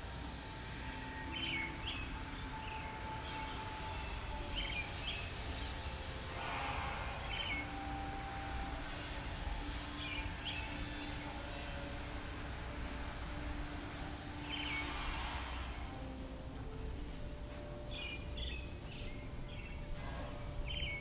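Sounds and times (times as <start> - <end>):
high hiss: 0.0 - 21.0
low city rumble: 0.0 - 21.0.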